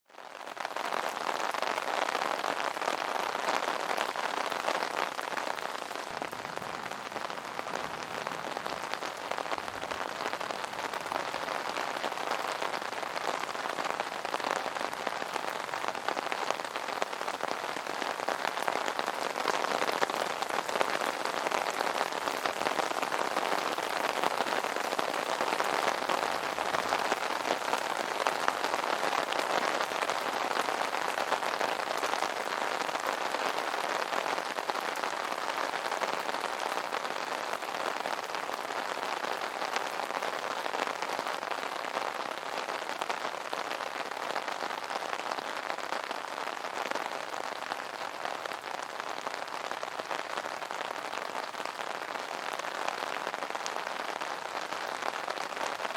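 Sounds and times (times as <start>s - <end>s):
rain pattering on umbrella: 0.0s - 55.9s.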